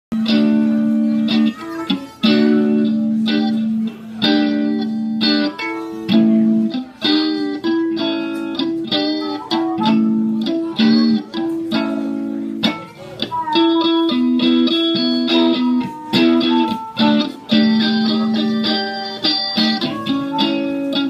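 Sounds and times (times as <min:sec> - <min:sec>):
electric guitar playing slow blues: 0:00.1 - 0:21.0.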